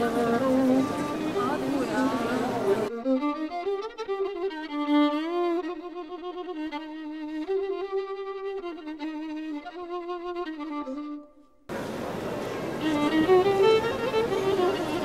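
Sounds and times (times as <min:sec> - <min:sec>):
bowed string slow melody: 0:00.0 - 0:11.5, 0:12.8 - 0:15.0.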